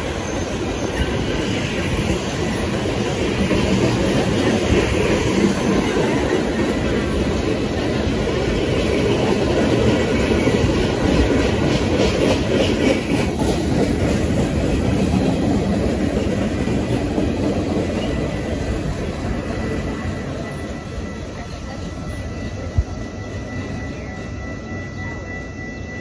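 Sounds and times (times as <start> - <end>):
clickety-clack of rail joints: 0.0 - 23.0
train wheels rumbling on rail: 0.0 - 26.0.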